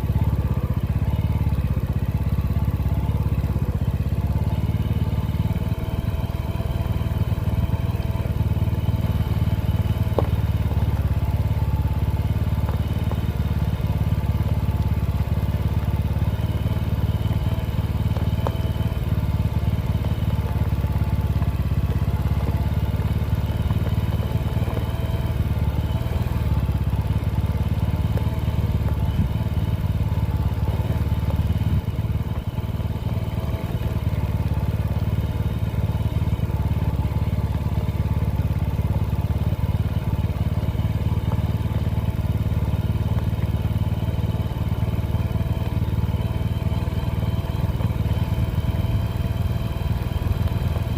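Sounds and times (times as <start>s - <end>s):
motorcycle engine rumbling: 0.0s - 50.9s.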